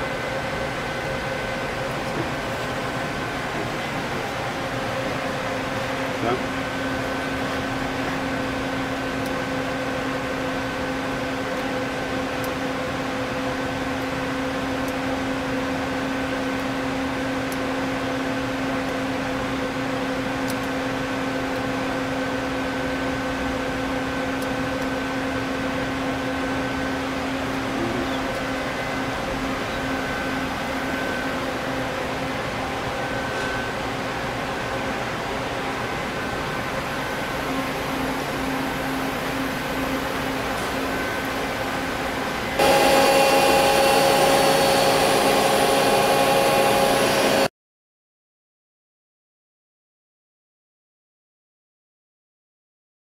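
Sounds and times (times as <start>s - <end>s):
lathe machine hum and whine: 0.0s - 47.5s.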